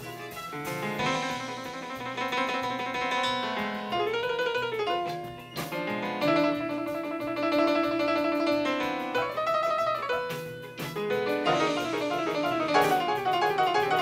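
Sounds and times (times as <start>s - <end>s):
band accompaniment: 0.0s - 14.0s
piano chords: 0.0s - 14.0s.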